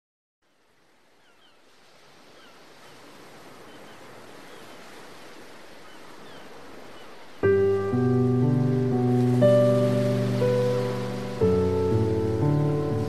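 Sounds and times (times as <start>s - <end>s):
ocean surf: 0.7s - 13.0s.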